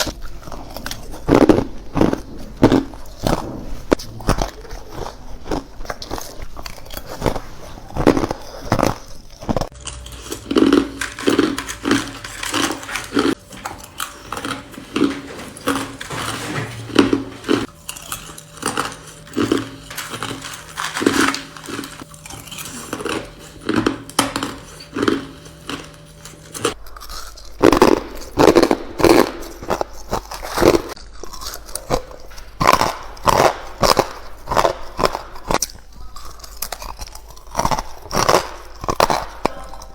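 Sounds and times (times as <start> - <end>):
person crunching ice with teeth: 0.0 - 16.2, 17.1 - 39.9.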